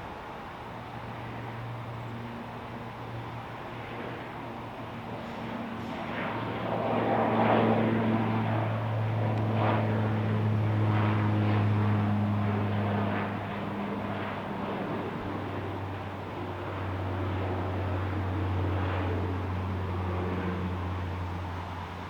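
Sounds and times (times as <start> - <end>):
aircraft engines humming: 0.0 - 22.0.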